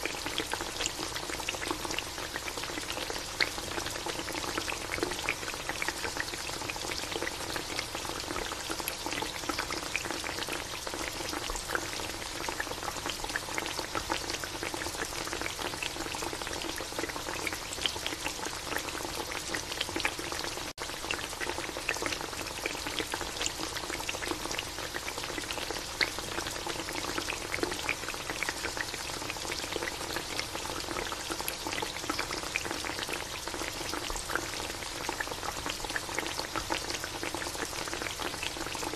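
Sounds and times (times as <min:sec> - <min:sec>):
food sizzling in a metal pan: 0:00.0 - 0:38.9.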